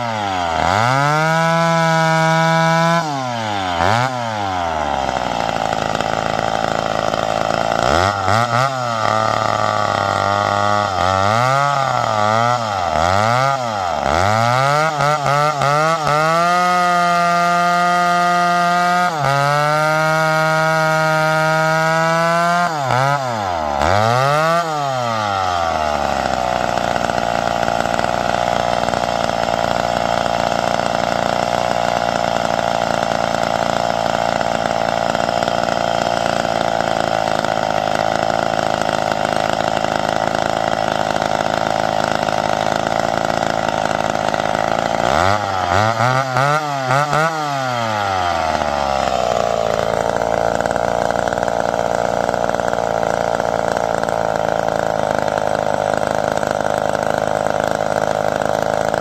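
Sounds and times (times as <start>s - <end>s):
chainsaw cutting at full throttle: 0.0s - 59.0s.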